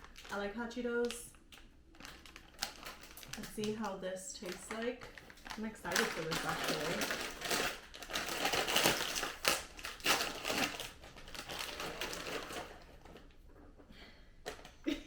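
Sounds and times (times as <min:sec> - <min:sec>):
plastic snack bag crinkling: 0:00.0 - 0:13.5.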